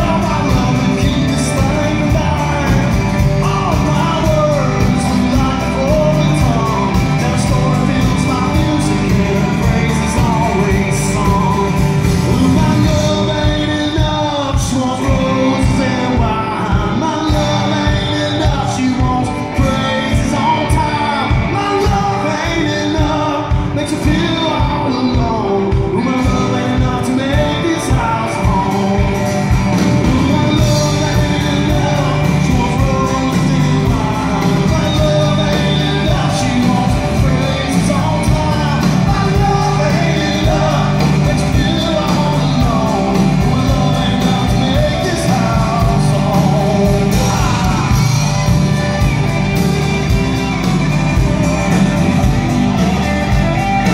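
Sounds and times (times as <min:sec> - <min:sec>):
live rock band playing: 0:00.0 - 0:53.9
person singing: 0:00.0 - 0:53.9
steady drum beat: 0:00.0 - 0:53.9.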